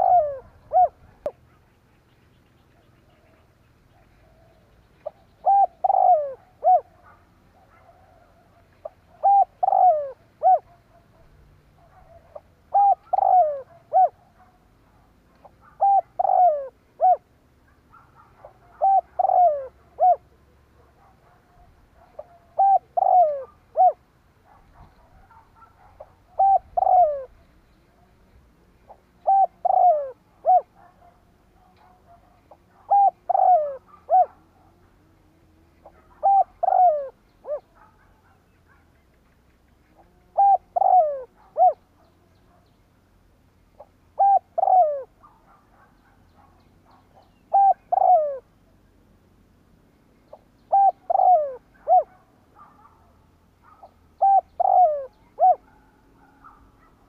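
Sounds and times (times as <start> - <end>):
dove cooing: 0.0 - 42.6, 43.8 - 48.5, 50.3 - 57.0.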